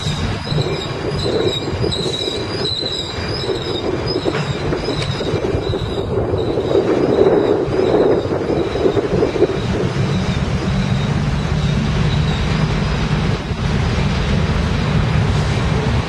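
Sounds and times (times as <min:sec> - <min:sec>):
high wheel squeal: 0:00.0 - 0:13.5
steel wheels rumbling on rails: 0:00.0 - 0:16.0.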